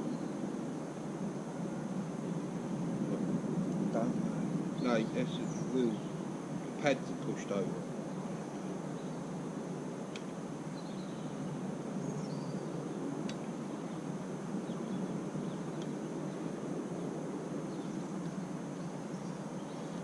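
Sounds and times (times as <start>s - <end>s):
faint high whine: 0.0s - 20.0s
outdoor background noise: 0.0s - 20.0s.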